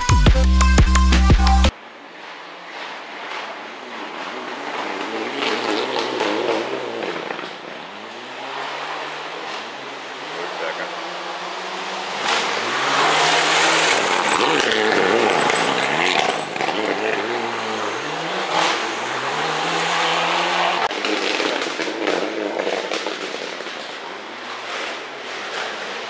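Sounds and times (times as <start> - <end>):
rally car engine revving: 0.6 - 26.0.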